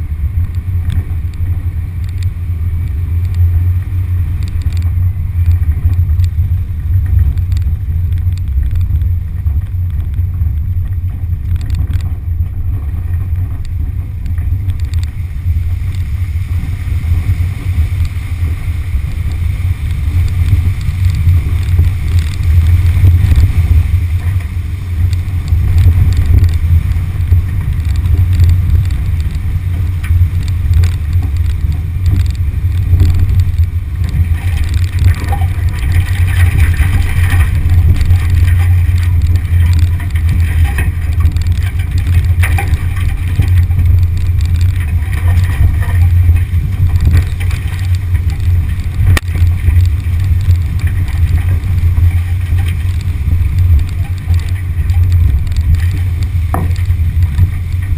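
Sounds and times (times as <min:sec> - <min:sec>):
car engine low rumble: 0:00.0 - 0:57.9.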